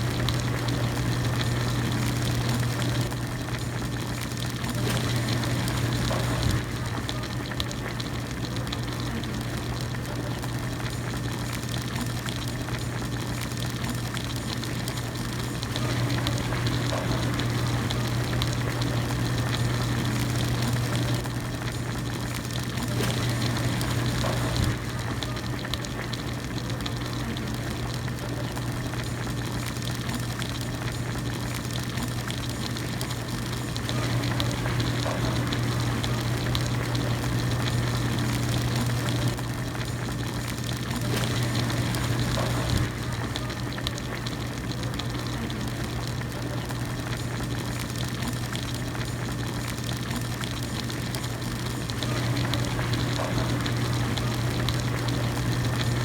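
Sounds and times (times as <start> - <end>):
broth bubbling at a rolling boil: 0.0 - 56.0.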